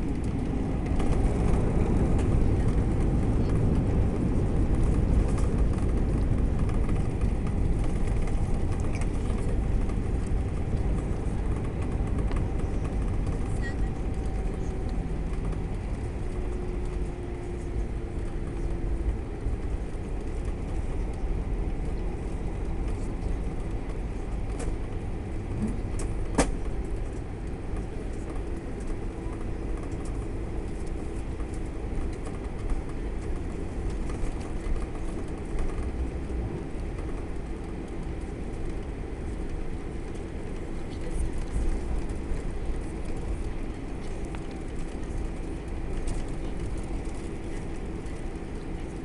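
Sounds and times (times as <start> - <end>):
airliner cabin rumble: 0.0 - 49.0
faint engine tone: 0.0 - 49.0.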